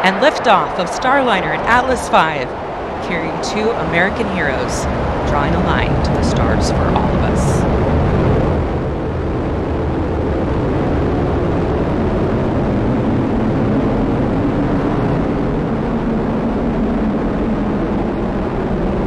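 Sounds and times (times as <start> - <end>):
rocket engine rumble: 0.0 - 19.0.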